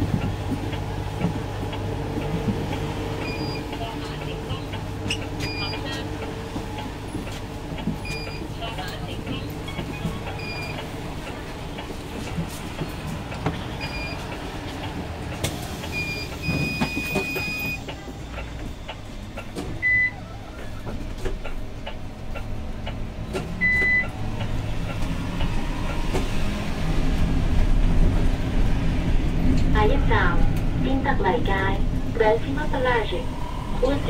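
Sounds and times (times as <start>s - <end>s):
bus interior rumble: 0.0s - 34.0s.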